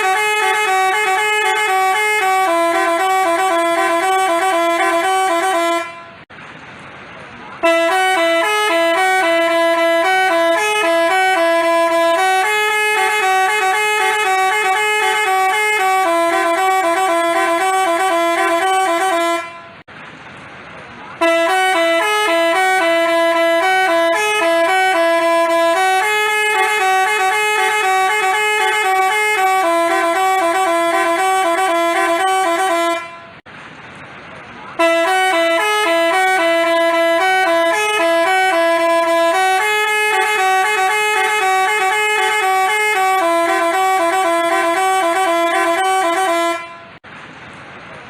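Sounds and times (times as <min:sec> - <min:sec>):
musical bus horn melody: 0:00.0 - 0:06.3, 0:07.6 - 0:19.9, 0:21.2 - 0:33.5, 0:34.8 - 0:47.0.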